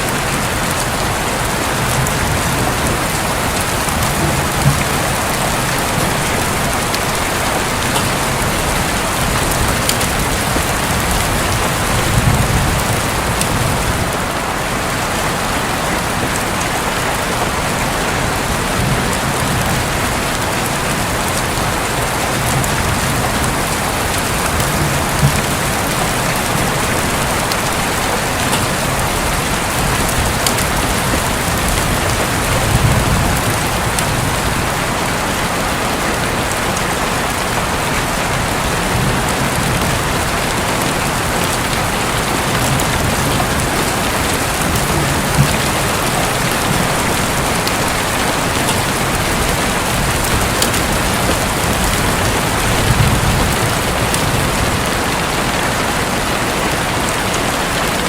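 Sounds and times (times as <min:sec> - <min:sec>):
distant thunder rumbles: 0:00.0 - 0:14.5, 0:17.7 - 0:35.8, 0:38.5 - 0:55.2
heavy rain on a roof: 0:00.0 - 0:58.0.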